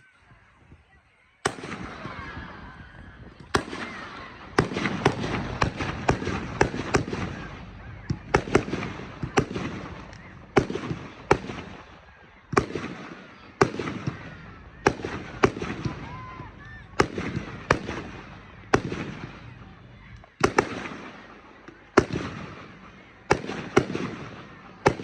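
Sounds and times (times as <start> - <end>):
crackling rumble: 2.9 - 25.0.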